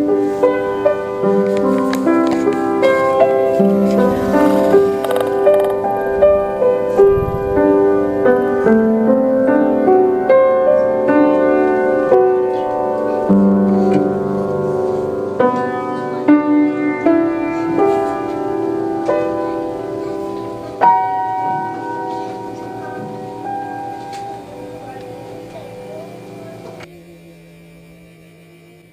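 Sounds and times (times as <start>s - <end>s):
slow gentle piano music: 0.0s - 26.8s.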